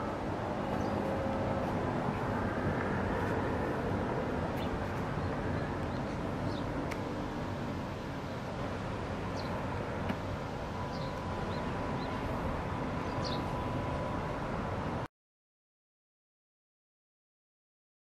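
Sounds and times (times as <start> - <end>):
traffic hum: 0.0 - 15.1.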